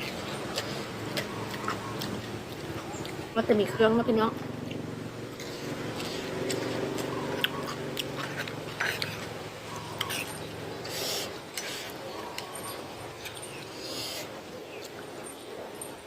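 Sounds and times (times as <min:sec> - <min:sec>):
chewing crunches: 0:00.0 - 0:03.4, 0:04.4 - 0:15.0.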